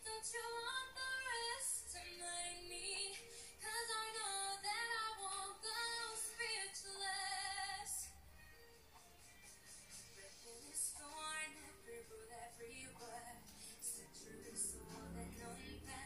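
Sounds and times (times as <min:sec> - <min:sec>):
woman singing: 0:00.0 - 0:08.1, 0:10.2 - 0:16.0
background music: 0:00.0 - 0:16.0.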